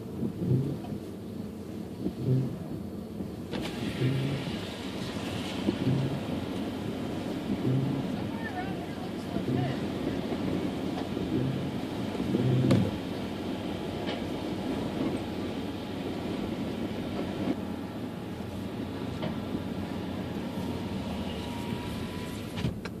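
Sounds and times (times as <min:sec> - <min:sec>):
windshield wiper sweeping: 0:00.0 - 0:01.2, 0:01.8 - 0:23.0
car engine: 0:00.0 - 0:23.0
tyres on wet road: 0:00.0 - 0:23.0.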